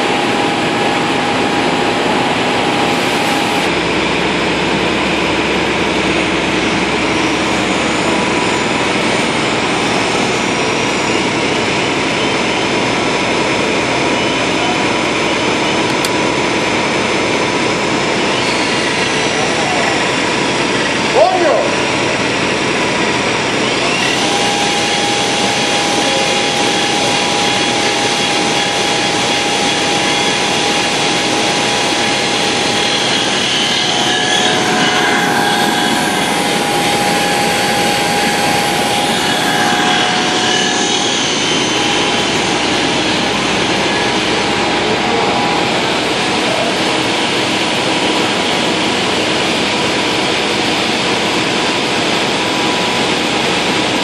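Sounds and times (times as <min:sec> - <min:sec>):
thin steady whine: 0:00.0 - 0:54.0.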